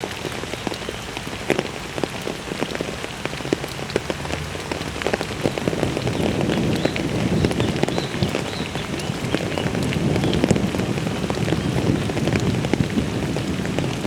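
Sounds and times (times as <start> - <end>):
rain falling: 0.0 - 14.0
raindrops splattering: 0.0 - 14.0.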